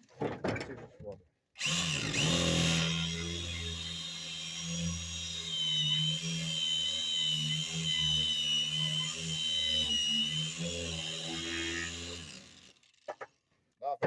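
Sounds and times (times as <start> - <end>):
angle grinder grinding wood: 1.6 - 13.3.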